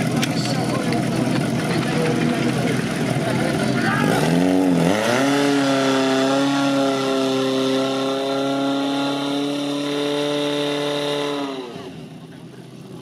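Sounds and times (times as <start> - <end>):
pump engine at high revs: 0.0 - 13.0.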